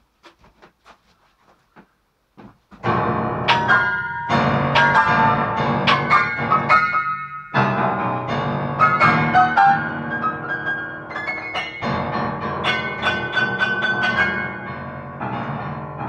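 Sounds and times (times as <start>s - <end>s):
upright piano playing: 2.8s - 16.0s.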